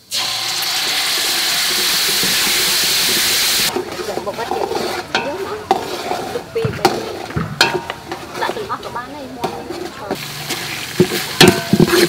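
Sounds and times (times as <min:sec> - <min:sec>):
chili paste sizzling in oil: 0:00.0 - 0:12.0
metal ladle scraping pot: 0:00.1 - 0:12.0.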